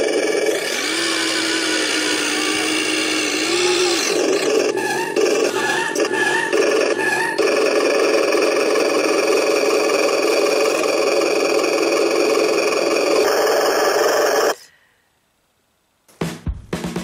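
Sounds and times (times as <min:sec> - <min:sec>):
electric motor and gearbox whining: 0:00.0 - 0:14.6.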